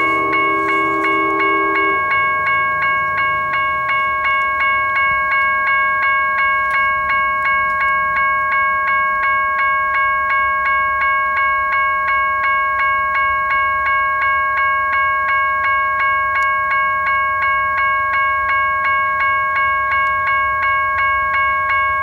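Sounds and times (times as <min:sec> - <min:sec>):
level crossing bell ringing: 0:00.0 - 0:22.0.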